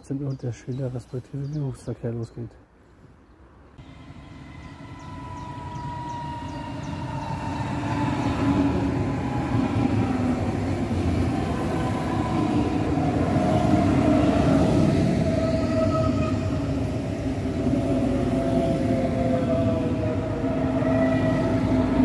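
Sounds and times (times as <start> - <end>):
train rumble and rail noise: 3.8 - 22.0.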